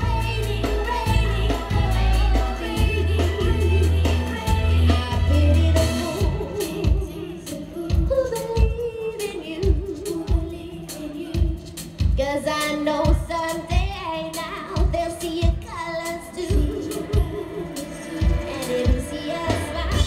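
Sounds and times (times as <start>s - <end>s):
live pop band: 0.0s - 20.0s
woman singing lead vocals: 0.0s - 20.0s.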